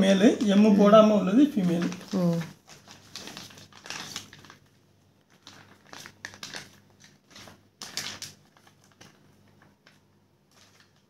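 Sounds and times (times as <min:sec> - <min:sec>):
plastic bags crinkling: 0:01.6 - 0:11.0.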